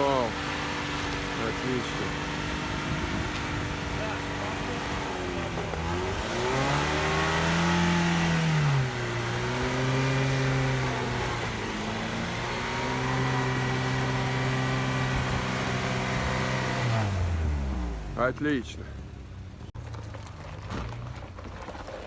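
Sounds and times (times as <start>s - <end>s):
engine revving: 0.0s - 19.9s.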